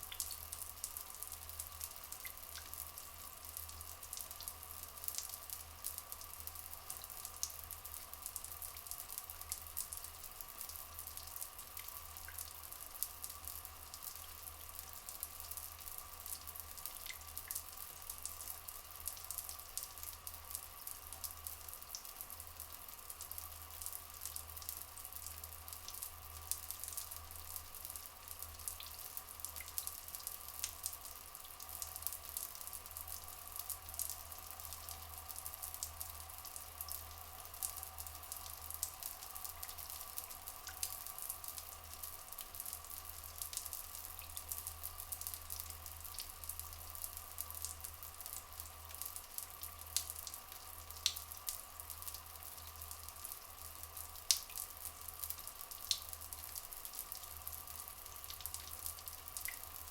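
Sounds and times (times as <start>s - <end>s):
dripping and fine crackles: 0.0s - 59.9s.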